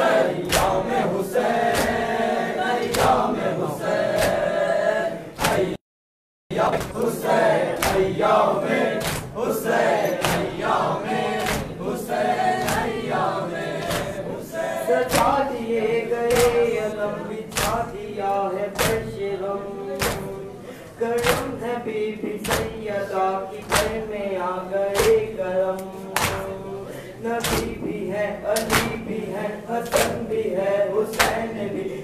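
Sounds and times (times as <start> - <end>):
men chanting in unison: 0.0 - 5.8, 6.5 - 32.0.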